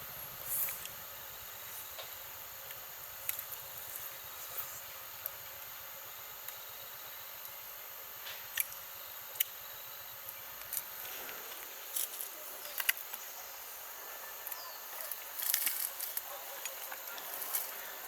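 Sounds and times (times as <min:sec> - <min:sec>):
high-pitched hiss and whine: 0:00.0 - 0:18.0.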